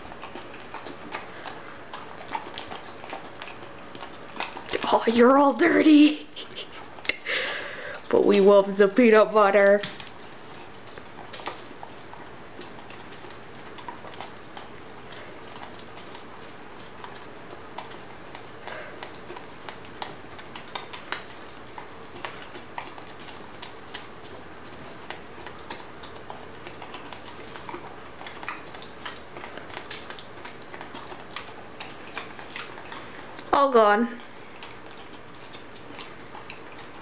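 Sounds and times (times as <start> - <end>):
puppy licking a metal spoon: 0.0 - 7.3, 7.9 - 37.0.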